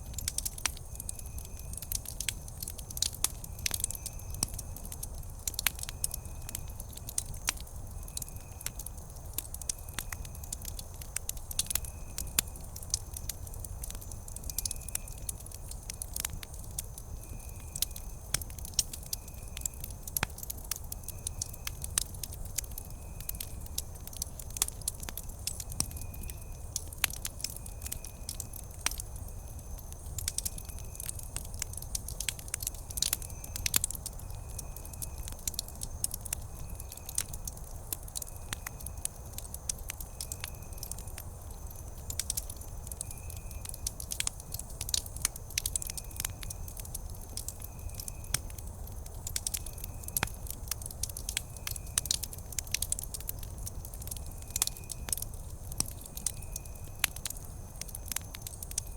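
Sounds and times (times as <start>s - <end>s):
campfire crackling: 0.0s - 58.9s.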